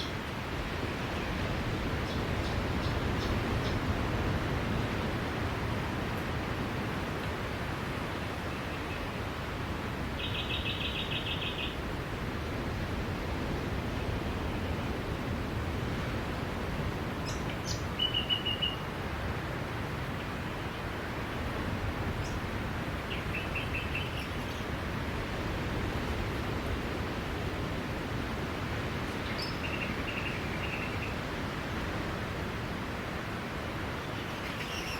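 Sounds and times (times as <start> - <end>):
sea surf on a beach: 0.0 - 34.9.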